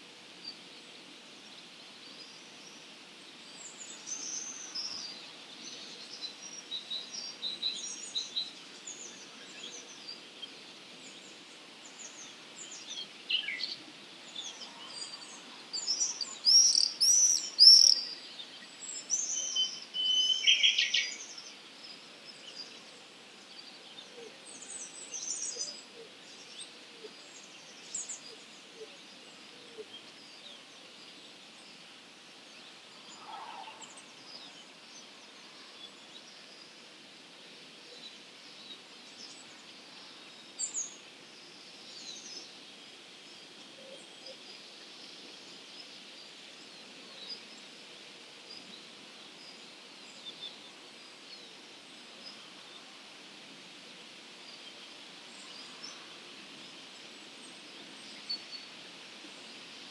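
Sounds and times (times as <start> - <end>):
distant songbird chorus: 0.0 - 53.4.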